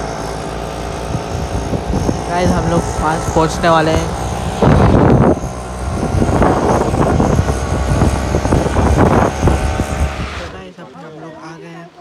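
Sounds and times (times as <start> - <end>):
low engine drone: 0.0 - 10.7
wind buffeting microphone: 0.0 - 10.7.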